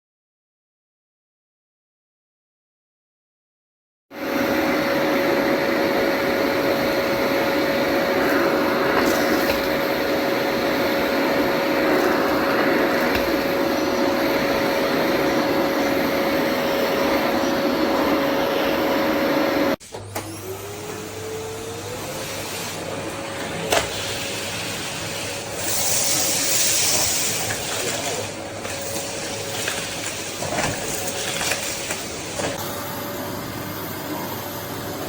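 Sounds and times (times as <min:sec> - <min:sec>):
vacuum cleaner running: 0:04.1 - 0:35.0.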